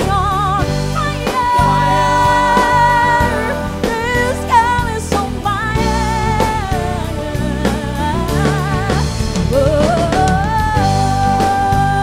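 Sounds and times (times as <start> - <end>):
live pop band playing: 0.0 - 12.0
singer holding vibrato notes: 1.0 - 11.5.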